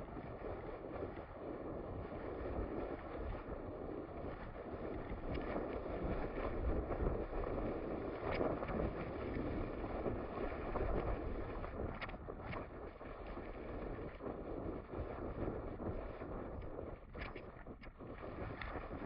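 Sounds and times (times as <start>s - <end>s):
steady low rumble: 0.0s - 19.0s
wind buffeting microphone: 0.0s - 19.0s.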